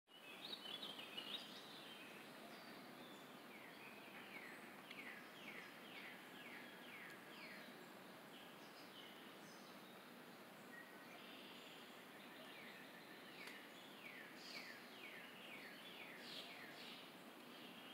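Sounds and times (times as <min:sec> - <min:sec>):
songbird chirps: 0:00.1 - 0:17.9.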